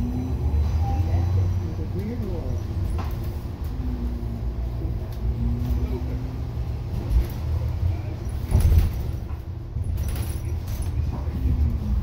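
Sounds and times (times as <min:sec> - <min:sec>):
bus ride rumble: 0:00.0 - 0:12.0.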